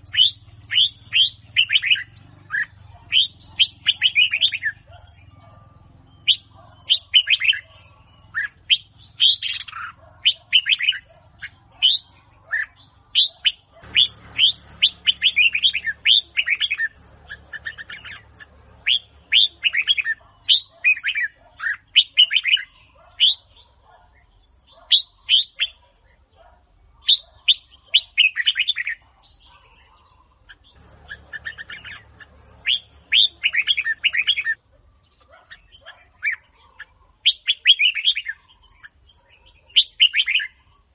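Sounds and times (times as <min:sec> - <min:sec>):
bulbul singing whistled notes: 0:00.0 - 0:25.8, 0:27.0 - 0:29.8, 0:30.8 - 0:34.6, 0:35.4 - 0:38.9, 0:39.5 - 0:40.7.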